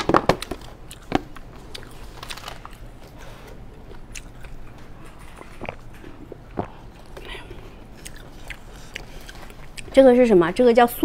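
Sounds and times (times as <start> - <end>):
quiet chewing and mouth sounds: 0.8 - 10.2.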